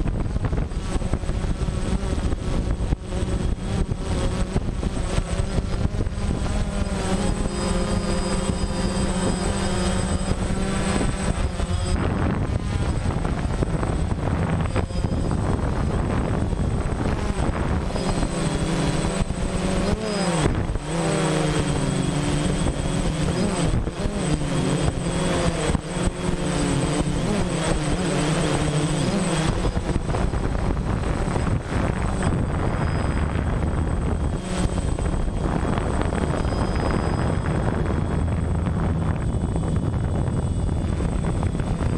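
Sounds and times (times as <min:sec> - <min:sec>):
drone propellers whirring: 0:00.0 - 0:41.9
steady rushing noise: 0:00.0 - 0:41.9.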